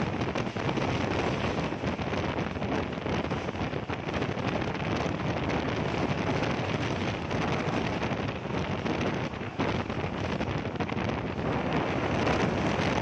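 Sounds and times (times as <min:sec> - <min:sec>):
train wheels rumbling: 0:00.0 - 0:13.0
wind on microphone: 0:00.0 - 0:13.0.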